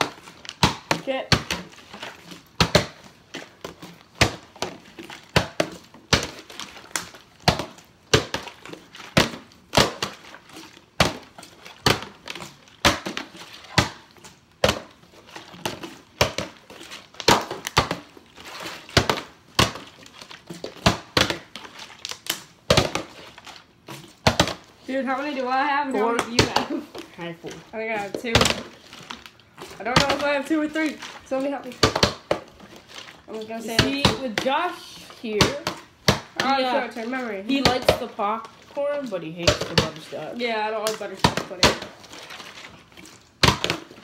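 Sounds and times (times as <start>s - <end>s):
plastic bottles landing on wooden floor: 0.0s - 10.4s, 11.0s - 38.6s, 39.3s - 42.7s, 43.3s - 44.0s.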